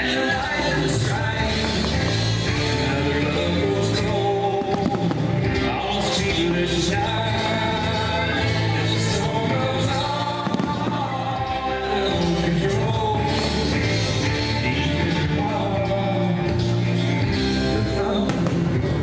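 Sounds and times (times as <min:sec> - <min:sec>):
fireworks bursting: 0:00.0 - 0:17.1, 0:18.0 - 0:19.0
rock pop music with singing: 0:00.0 - 0:19.0.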